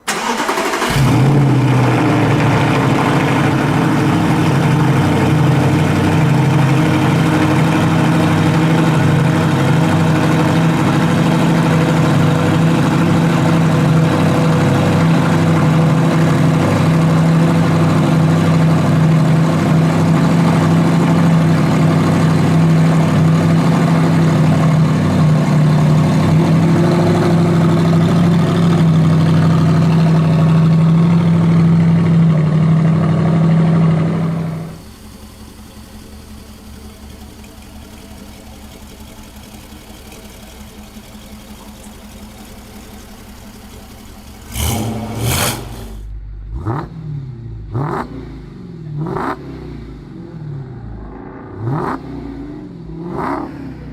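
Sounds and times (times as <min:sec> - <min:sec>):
engine droning steadily: 0:00.0 - 0:53.9.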